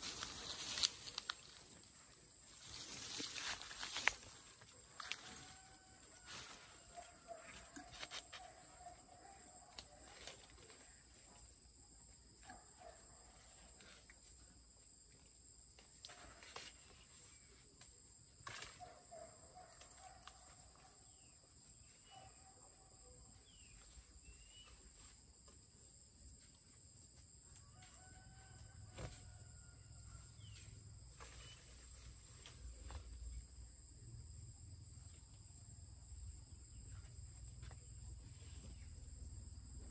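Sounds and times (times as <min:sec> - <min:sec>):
insect drone: 0:00.0 - 0:39.9.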